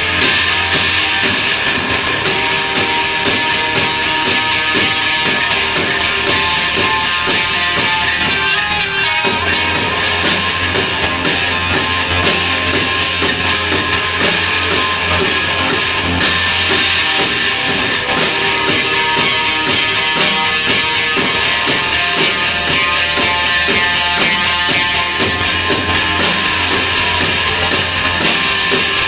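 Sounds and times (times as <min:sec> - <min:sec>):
drum kit beat: 0:00.0 - 0:29.0
electric guitars: 0:00.0 - 0:29.0
rock band playing: 0:00.0 - 0:29.0.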